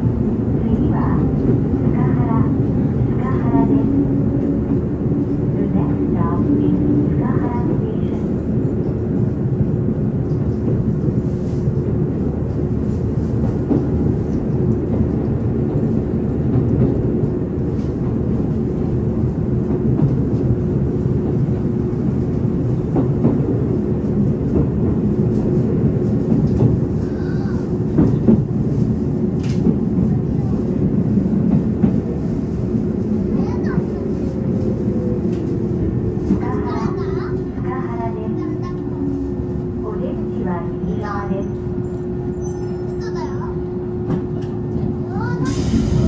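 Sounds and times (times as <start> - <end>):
train running noise with hum: 0.0 - 46.0.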